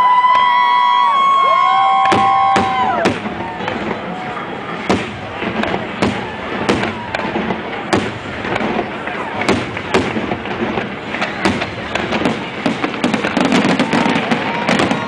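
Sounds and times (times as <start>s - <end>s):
fireworks bursting: 0.2s - 15.0s
crowd murmuring: 1.5s - 15.0s.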